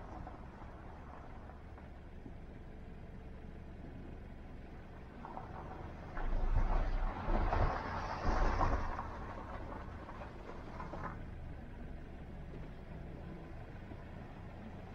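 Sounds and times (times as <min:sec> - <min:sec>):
car engine rumble: 0:00.0 - 0:14.9
road and tyre noise: 0:00.0 - 0:14.9.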